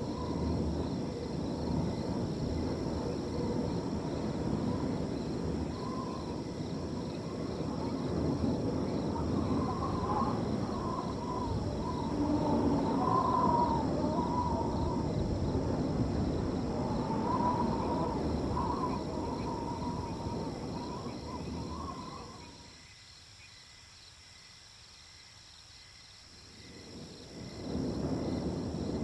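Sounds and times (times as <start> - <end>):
wind blowing: 0.0 - 22.8, 26.5 - 29.0
crickets trilling: 0.0 - 29.0.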